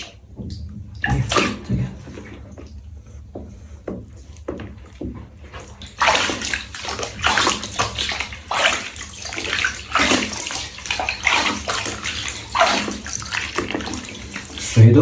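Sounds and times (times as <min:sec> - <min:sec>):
water splashing and running: 0:00.0 - 0:02.9, 0:04.6 - 0:15.0.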